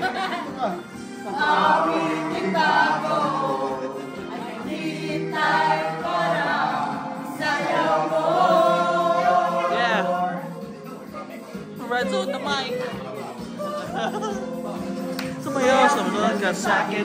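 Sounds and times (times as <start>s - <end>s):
voices singing together: 0.0s - 11.8s, 12.9s - 17.0s
music: 0.0s - 17.0s.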